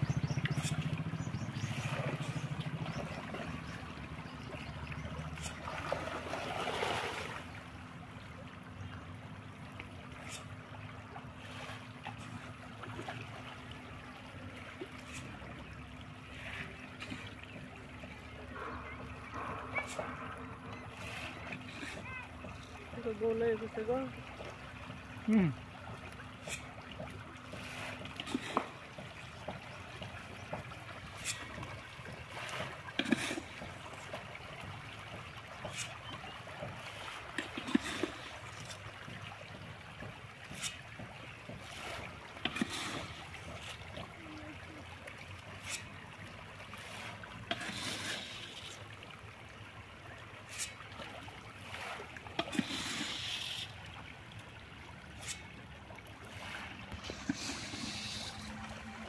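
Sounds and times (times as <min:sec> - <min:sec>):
fish splashing in water: 0:00.0 - 0:59.0.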